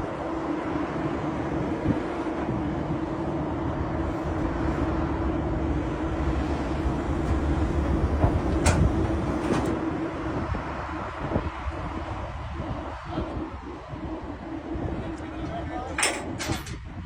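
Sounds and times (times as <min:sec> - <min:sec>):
excavator engine and hydraulic drone: 0:00.0 - 0:17.0.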